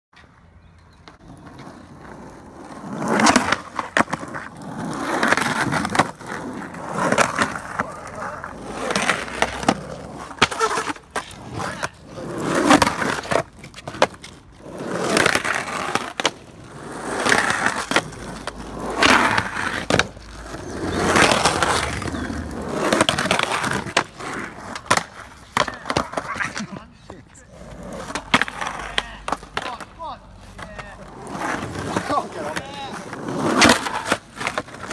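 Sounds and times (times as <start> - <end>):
skateboard wheels rolling on asphalt: 0.1 - 34.9
skateboard clacking on ground: 0.2 - 34.9.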